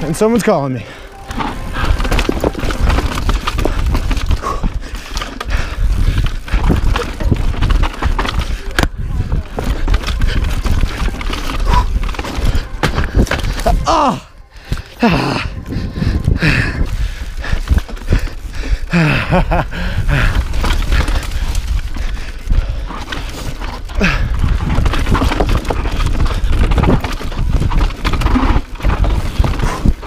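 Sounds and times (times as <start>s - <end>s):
bike whirring: 0.0s - 30.0s
mountain bike chain and frame rattle: 0.0s - 30.0s
wind rumble on microphone: 1.2s - 30.0s.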